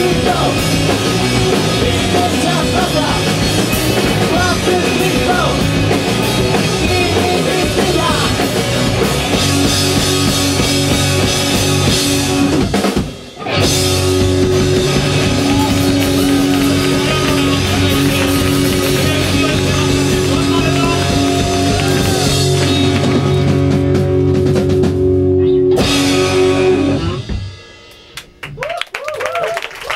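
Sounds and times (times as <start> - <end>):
electric guitars: 0.0 - 28.4
bass guitar: 0.0 - 29.9
drum kit: 0.0 - 29.9.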